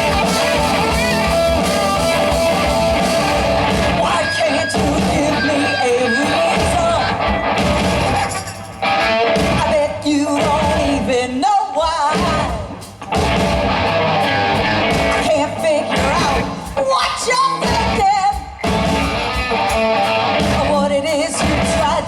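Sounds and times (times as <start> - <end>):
person singing: 0.0 - 7.4, 9.2 - 12.8, 15.0 - 22.0
electric guitar: 0.0 - 22.0
rock band playing: 0.0 - 22.0.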